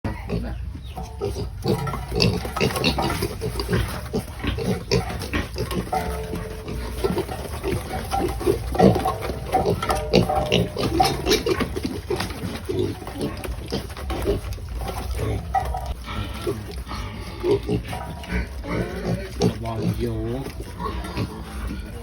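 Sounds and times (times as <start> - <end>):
pigs grunting and squealing: 0.1 - 22.0.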